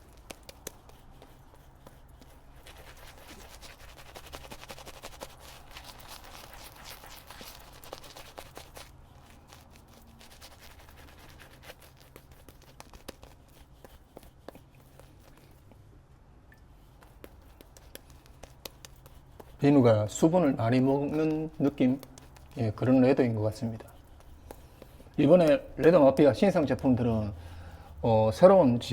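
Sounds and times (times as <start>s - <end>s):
shaving brush swishing lather: 0.0s - 15.6s, 16.9s - 27.4s.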